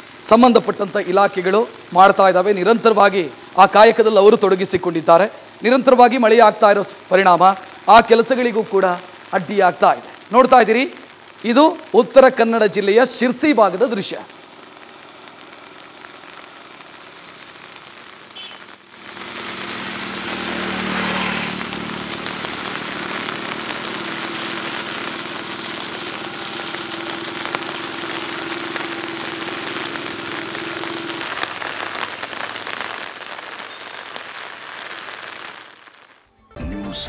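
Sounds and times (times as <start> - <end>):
rain falling: 0.0 - 36.3.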